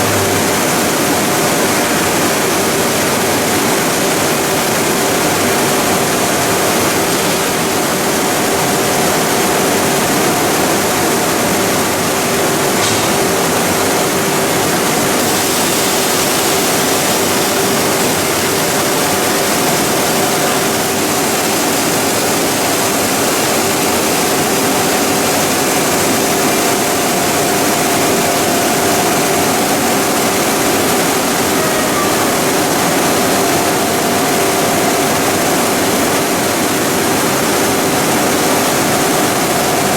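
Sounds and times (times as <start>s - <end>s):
industrial machinery humming: 0.0s - 39.9s.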